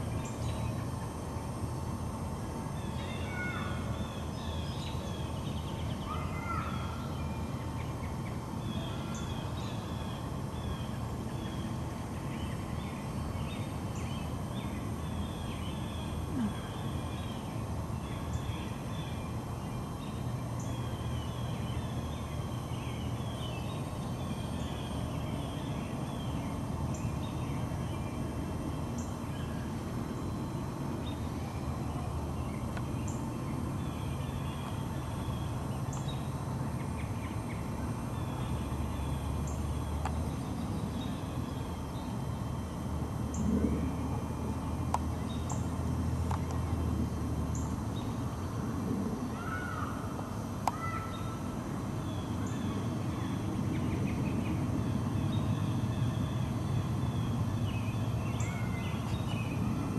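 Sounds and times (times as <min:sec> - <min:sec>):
small birds chirping: 0:00.0 - 0:48.5, 0:49.2 - 0:59.9.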